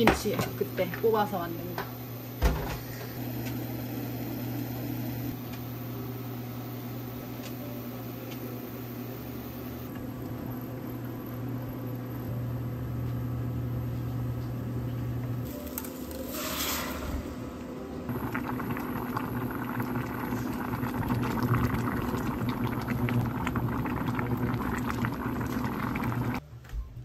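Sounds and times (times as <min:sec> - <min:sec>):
kitchen appliance humming: 0:00.0 - 0:26.4.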